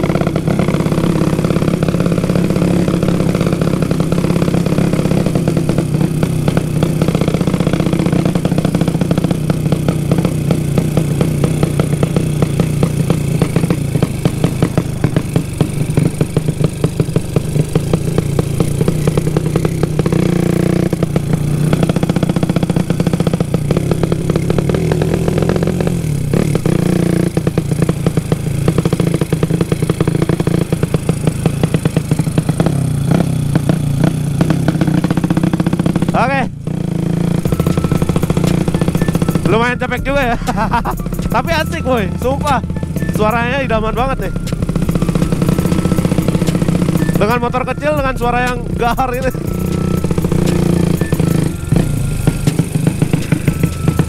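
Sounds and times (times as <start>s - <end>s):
motorcycle engine chopping beat: 0.0s - 54.0s.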